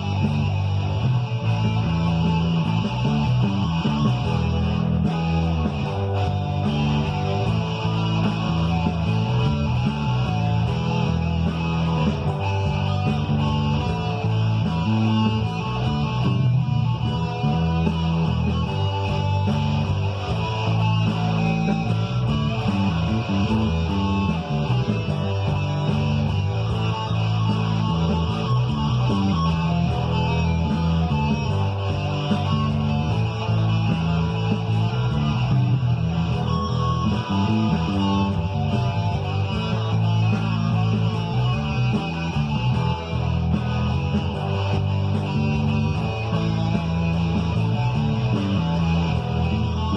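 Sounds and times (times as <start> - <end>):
electric guitar: 0.0 - 49.9
rock backing track with bass and drums: 0.0 - 49.9.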